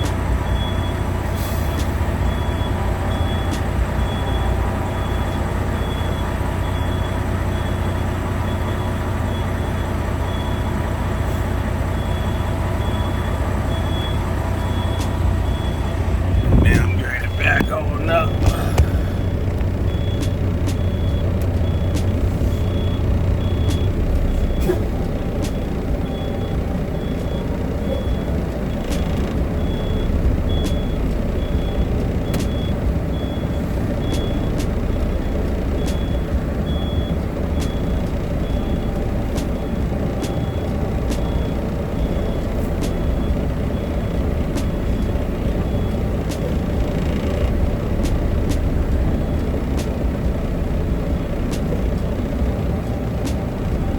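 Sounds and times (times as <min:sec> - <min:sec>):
truck backup alarm beeping: 0:00.0 - 0:53.9
truck engine idling: 0:00.0 - 0:53.9.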